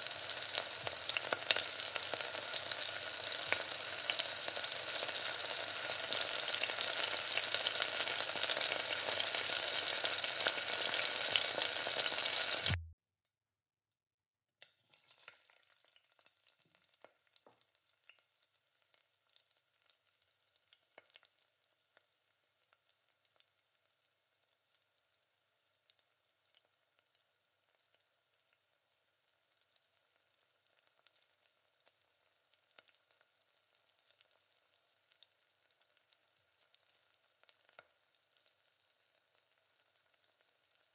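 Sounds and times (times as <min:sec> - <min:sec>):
sauce sizzling in a hot pan: 0:00.0 - 0:12.8, 0:14.9 - 0:40.9.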